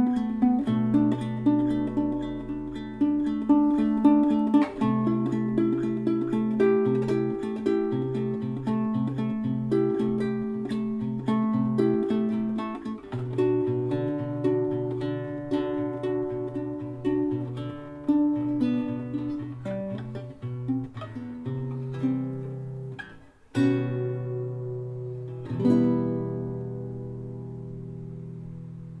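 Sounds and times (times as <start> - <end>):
guitar chords ringing out: 0.0 - 29.0
plucked guitar melody: 0.0 - 29.0.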